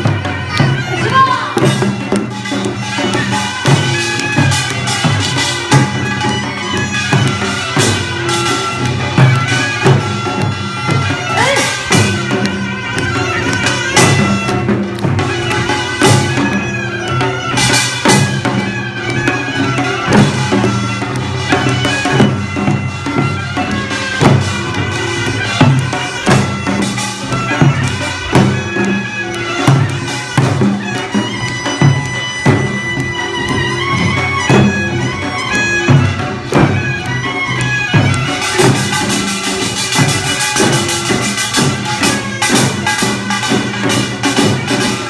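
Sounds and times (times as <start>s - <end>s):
drum strokes: 0.0s - 45.0s
reedy wind instrument: 0.0s - 45.0s.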